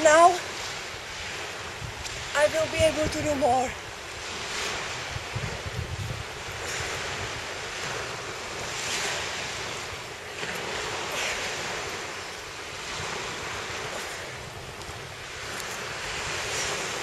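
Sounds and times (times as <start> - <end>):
small waves washing onto beach: 0.0 - 17.0
wind on microphone: 0.0 - 17.0.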